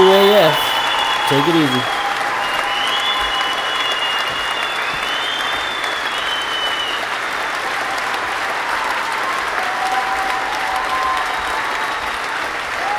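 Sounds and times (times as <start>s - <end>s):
crowd applauding: 0.0s - 12.9s
long whistles: 0.0s - 12.9s.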